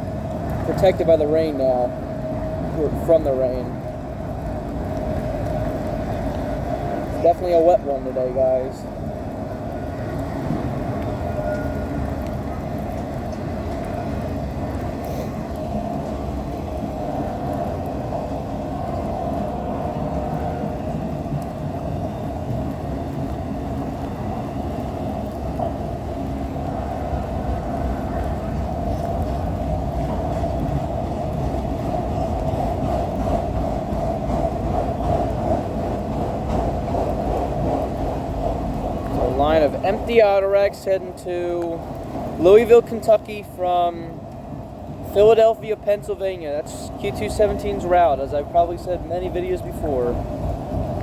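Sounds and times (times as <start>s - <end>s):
steel wheels rumbling on rail: 0.0s - 51.0s.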